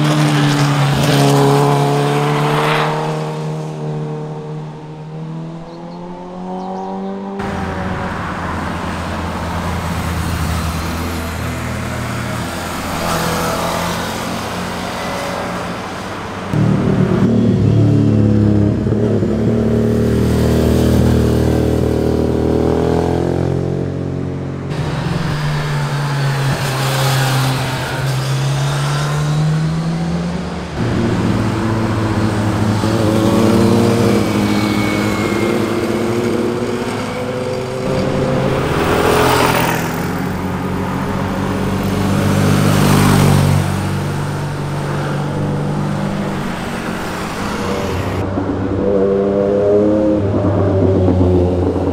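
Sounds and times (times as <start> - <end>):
motorcycle engines revving: 0.0 - 51.9
motorcycles rushing past: 0.0 - 51.9.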